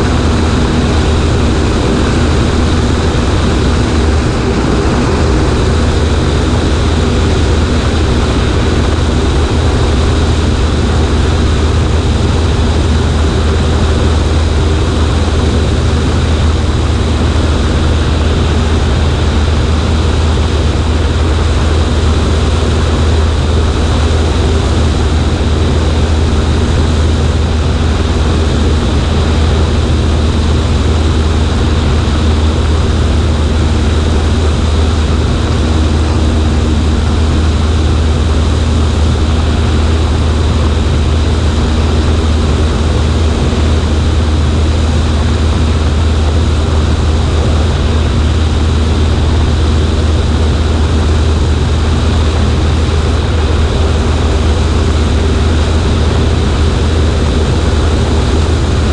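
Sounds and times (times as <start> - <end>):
airplane engine droning: 0.0 - 58.9
rush of airflow: 0.0 - 58.9.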